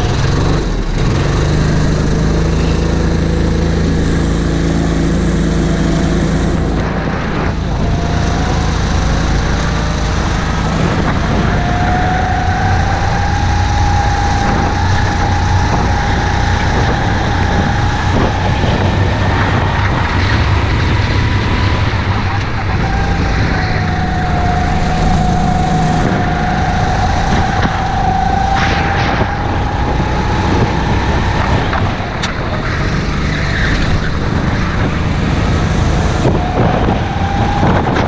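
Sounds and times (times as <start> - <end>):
go-kart engine accelerating: 0.0 - 38.0
rushing noise: 0.0 - 38.0.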